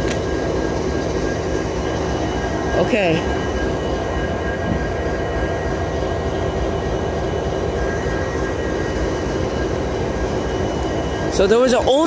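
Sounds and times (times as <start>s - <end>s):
diesel locomotive rumble: 0.0s - 12.0s
thin whining tones: 0.0s - 12.0s.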